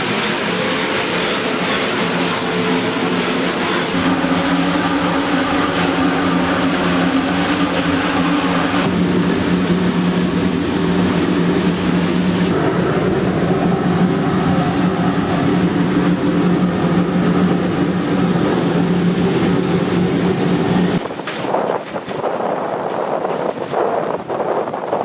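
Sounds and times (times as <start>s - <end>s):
locomotive cab running drone: 0.0s - 25.0s.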